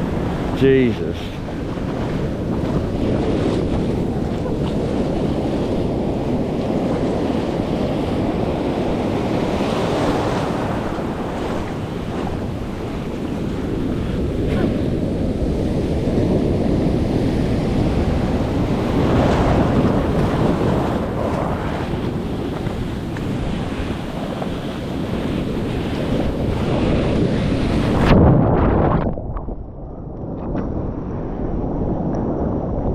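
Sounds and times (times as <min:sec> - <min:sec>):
heavy surf breaking: 0:00.0 - 0:29.2
wind buffeting microphone: 0:00.0 - 0:32.9.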